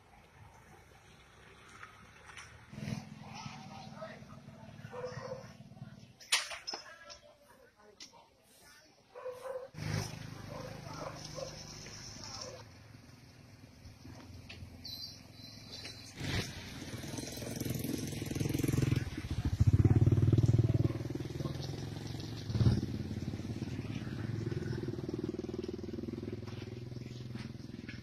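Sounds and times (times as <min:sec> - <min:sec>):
motorcycle engine passing: 0:00.7 - 0:06.7, 0:09.4 - 0:28.0.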